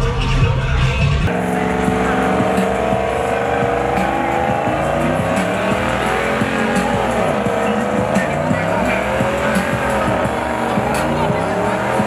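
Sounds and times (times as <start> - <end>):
engine revving high: 1.2 - 12.0
tyres squealing: 1.4 - 12.0.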